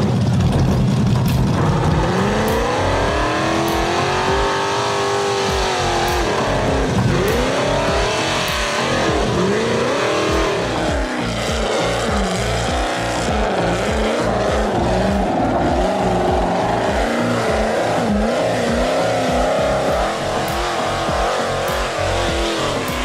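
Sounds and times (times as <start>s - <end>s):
buggy engine revving hard: 0.0s - 23.0s.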